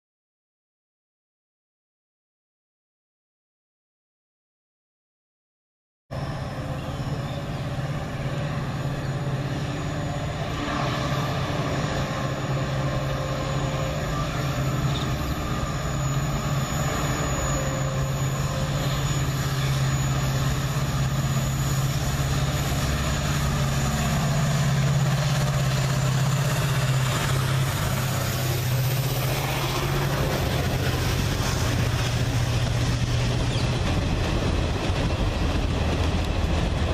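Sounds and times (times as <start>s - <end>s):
coaches rumbling on rails: 6.1s - 36.9s
diesel locomotive engine drone: 6.1s - 36.9s.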